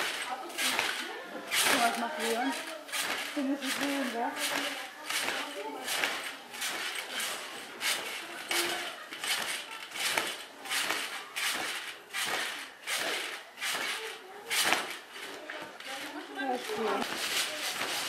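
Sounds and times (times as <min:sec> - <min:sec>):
straw rustling on trampoline mat: 0:00.0 - 0:18.0.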